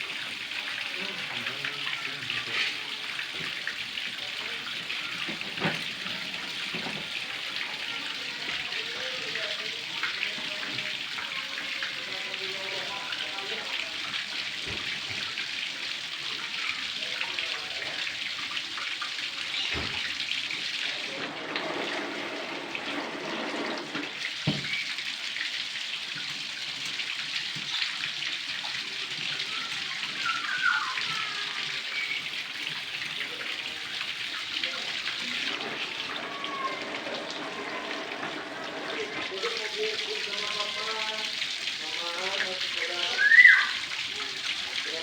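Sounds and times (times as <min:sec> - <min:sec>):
water running from a tap: 0:00.0 - 0:45.0.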